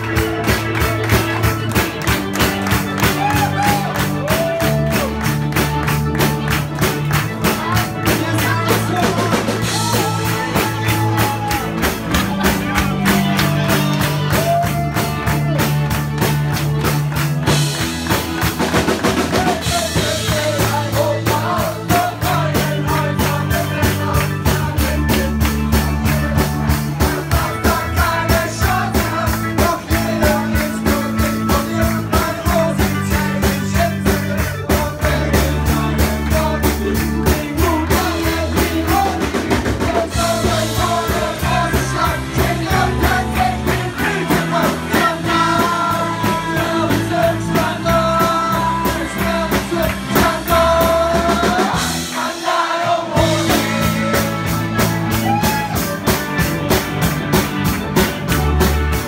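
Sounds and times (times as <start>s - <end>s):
drum kit beat: 0.0s - 59.0s
rock band playing: 0.0s - 59.0s.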